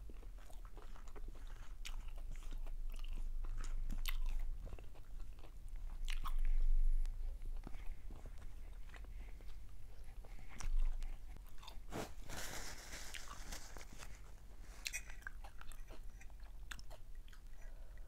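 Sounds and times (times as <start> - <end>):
person chewing and crunching: 0.0 - 12.2, 13.0 - 13.6, 14.6 - 18.0.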